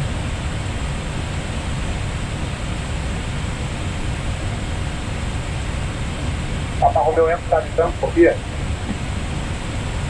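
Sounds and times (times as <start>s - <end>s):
cockpit airflow and engine rush: 0.0s - 10.0s.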